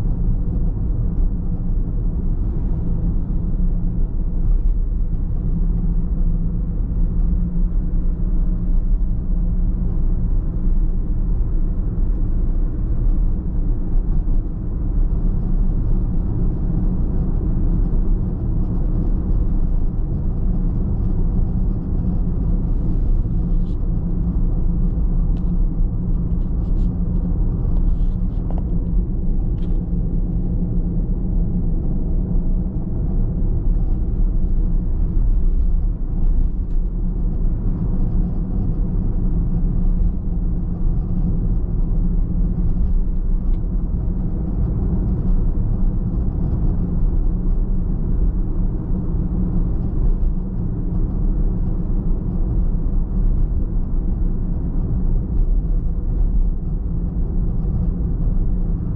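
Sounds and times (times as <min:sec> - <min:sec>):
car driving rumble: 0:00.0 - 0:58.9.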